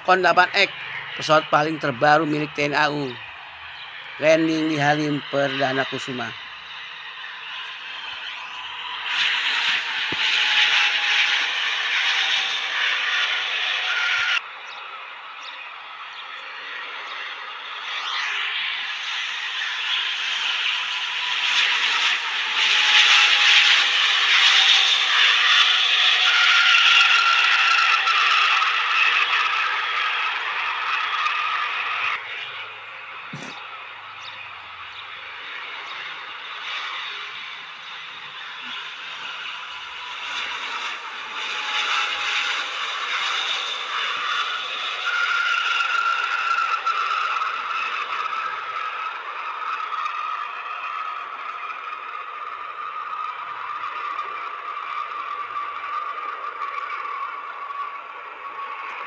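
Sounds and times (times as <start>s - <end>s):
jet engines rushing and whining: 0.0s - 59.0s.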